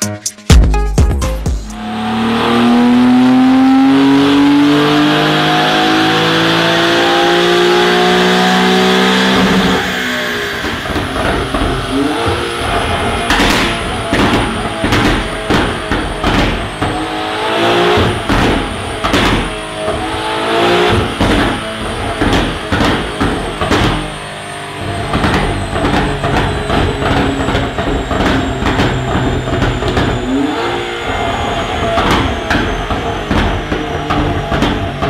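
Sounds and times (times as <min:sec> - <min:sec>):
car engine revving on dynamometer: 0:01.7 - 0:35.0.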